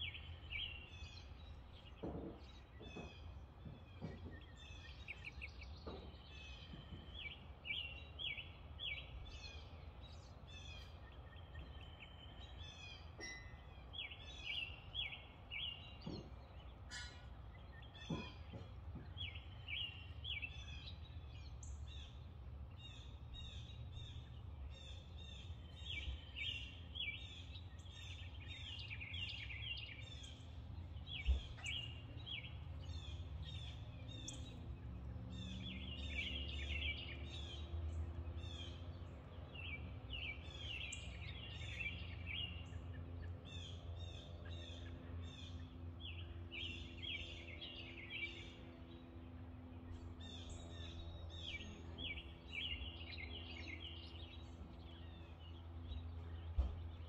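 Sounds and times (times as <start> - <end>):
low outdoor rumble: 0.0 - 57.0
small birds chirping: 0.0 - 57.0.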